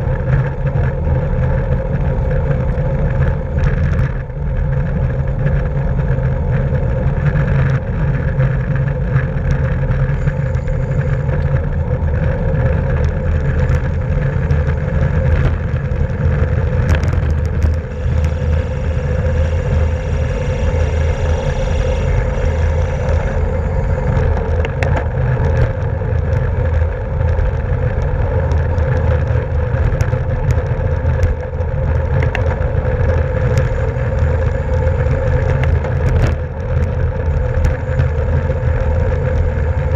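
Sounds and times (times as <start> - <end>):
bicycle tyre and drivetrain hum: 0.0 - 39.9
wind buffeting on microphone: 0.0 - 39.9.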